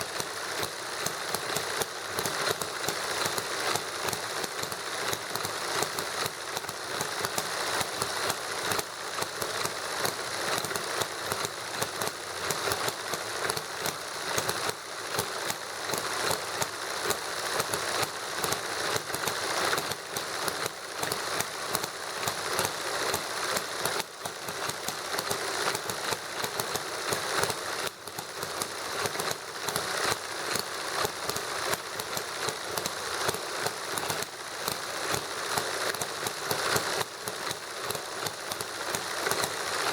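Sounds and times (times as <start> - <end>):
model engines clicking and popping: 0.0 - 39.9.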